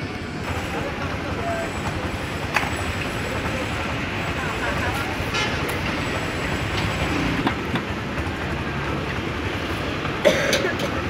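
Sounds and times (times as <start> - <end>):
busy street-food market: 0.0 - 11.0.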